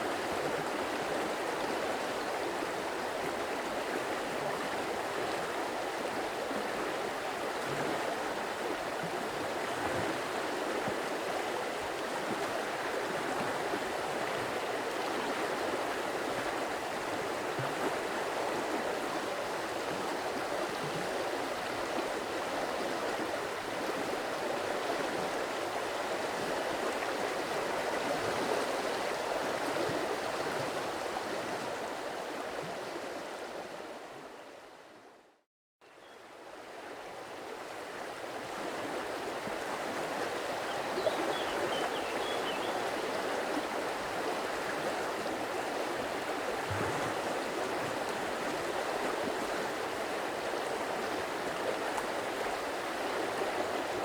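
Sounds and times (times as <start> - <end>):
stream water rushing: 0.0 - 34.3, 36.5 - 54.0.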